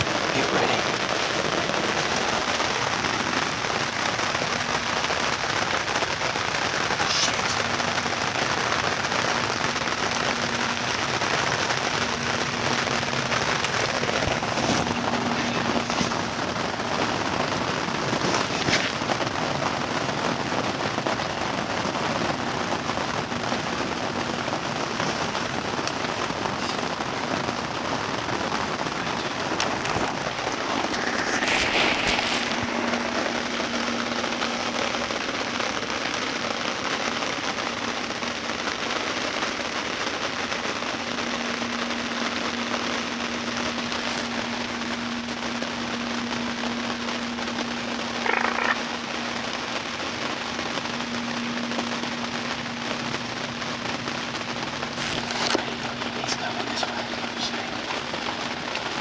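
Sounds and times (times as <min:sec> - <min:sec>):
steady hissing noise: 0:00.0 - 0:59.0.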